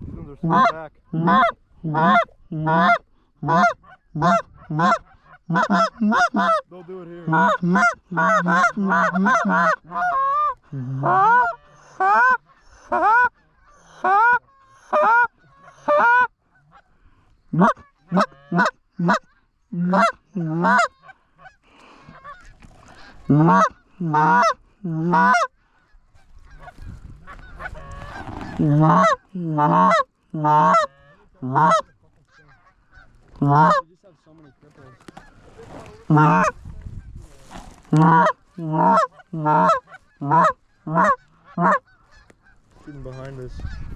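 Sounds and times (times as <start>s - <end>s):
goose honking: 0.4s - 16.9s, 17.5s - 36.6s, 37.9s - 43.9s.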